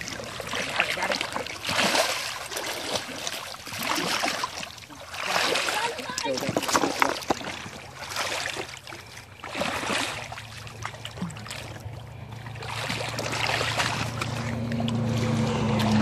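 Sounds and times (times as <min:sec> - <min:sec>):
low steady hum: 0:00.0 - 0:16.0
water splashing and trickling: 0:00.0 - 0:16.0.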